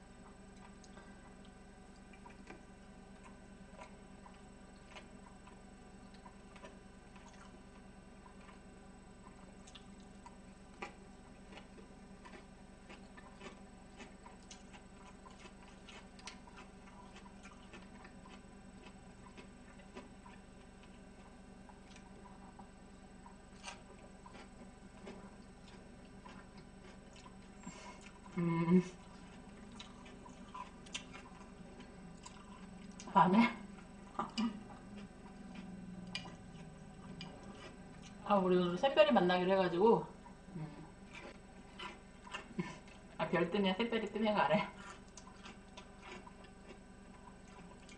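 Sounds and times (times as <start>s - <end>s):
steady low hum: 0.0s - 47.9s
chewing: 0.2s - 38.3s, 40.2s - 43.2s, 44.6s - 47.9s.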